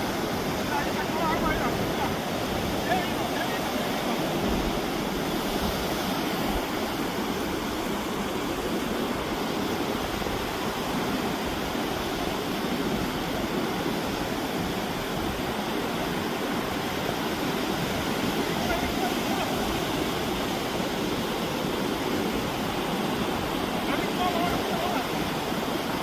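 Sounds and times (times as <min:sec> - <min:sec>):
sea surf: 0:00.0 - 0:26.0
wind: 0:00.0 - 0:26.0.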